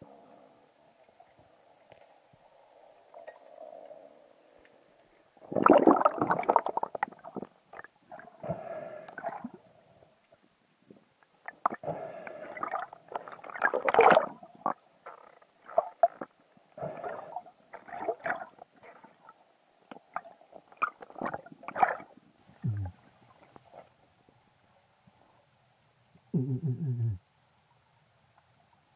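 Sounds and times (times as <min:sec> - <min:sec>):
underwater bubbling: 0:00.0 - 0:23.8.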